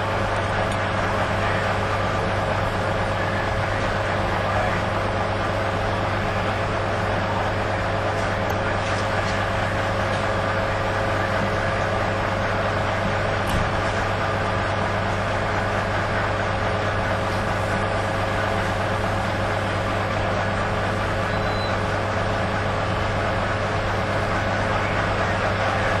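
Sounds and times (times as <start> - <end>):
fire engine engine droning: 0.0 - 26.0.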